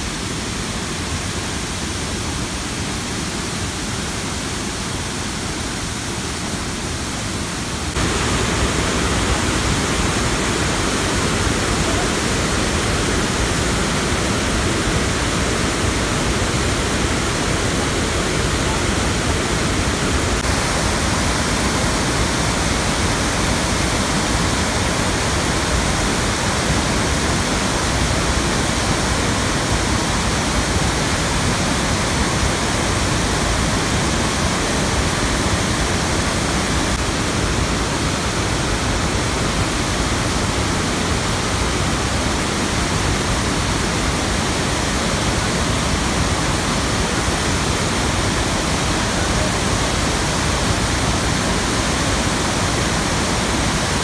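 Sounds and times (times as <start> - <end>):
water rushing down spillway: 0.0 - 54.0.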